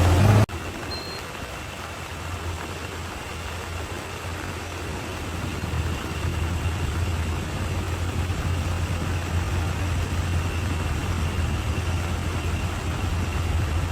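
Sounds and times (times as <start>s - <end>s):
bulldozer diesel engine droning: 0.0s - 13.9s.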